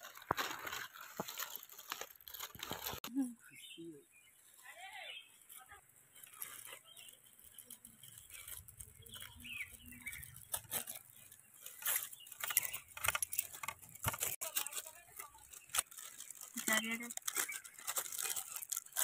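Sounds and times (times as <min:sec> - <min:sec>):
plastic wrappers crinkling: 0:00.0 - 0:03.2, 0:04.9 - 0:19.0.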